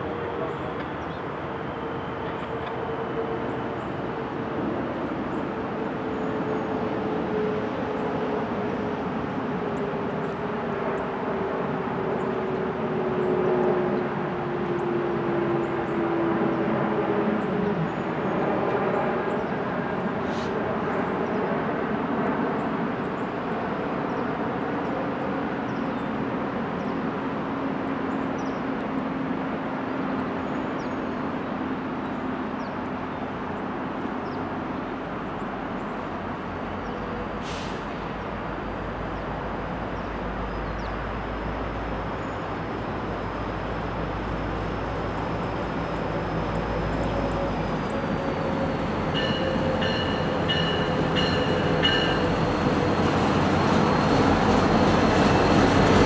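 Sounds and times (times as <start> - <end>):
distant engine drone: 0.0 - 56.0.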